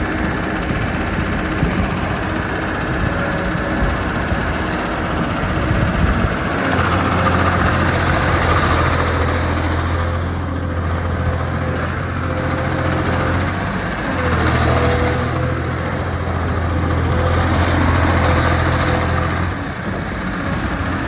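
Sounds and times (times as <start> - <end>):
high engine whine: 0.0 - 21.0
loader engine running: 0.0 - 21.0.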